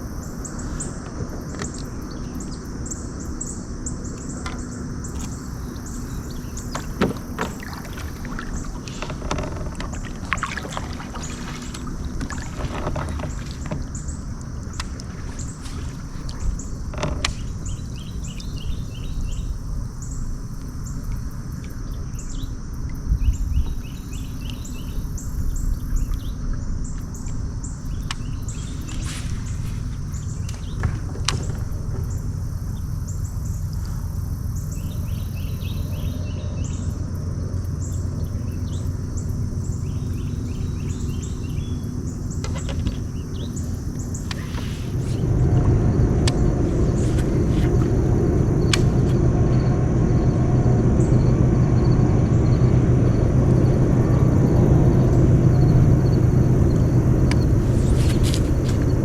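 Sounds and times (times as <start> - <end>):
high insect buzz: 0.0 - 22.3, 26.9 - 59.0
birds chirping: 0.0 - 59.0
low rumble of water or wind: 0.0 - 59.0.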